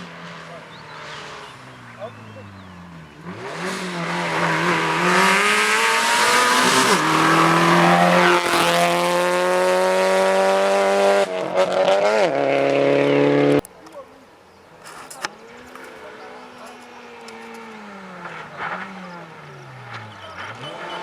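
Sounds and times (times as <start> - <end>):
rally car engine accelerating: 0.0 - 13.6, 14.9 - 21.0.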